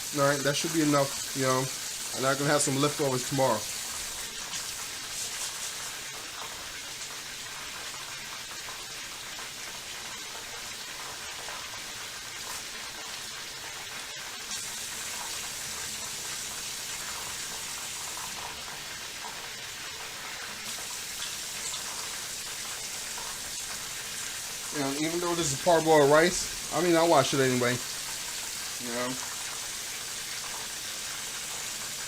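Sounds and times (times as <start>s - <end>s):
tap water running into a bowl: 0.0s - 32.0s.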